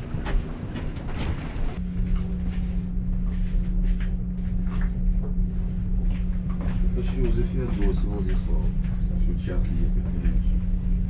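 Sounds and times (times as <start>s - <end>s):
railway car rumble: 0.0s - 11.0s
steady hum: 0.0s - 11.0s.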